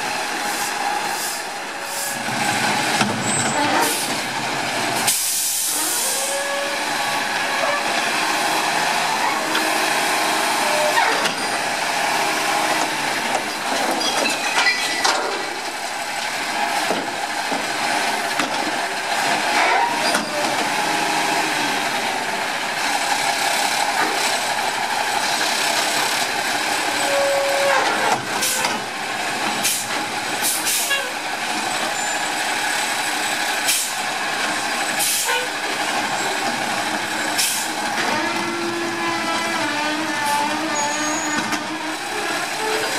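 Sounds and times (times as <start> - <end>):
garbage truck engine and hydraulics: 0.0 - 42.9.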